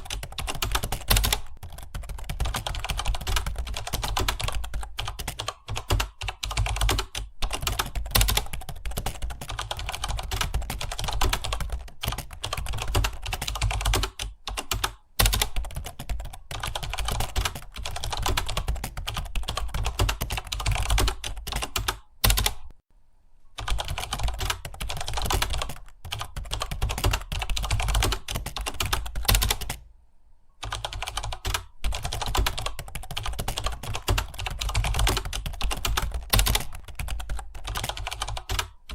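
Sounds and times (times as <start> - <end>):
fast typing on keyboard: 0.0 - 22.7, 23.6 - 29.8, 30.6 - 38.9.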